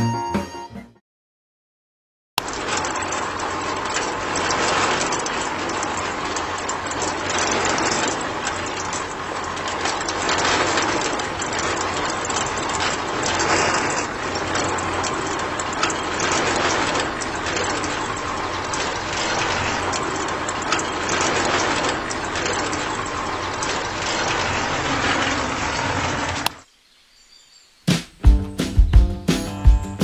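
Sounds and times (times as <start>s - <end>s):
cement mixer drum rattling: 2.4s - 26.6s.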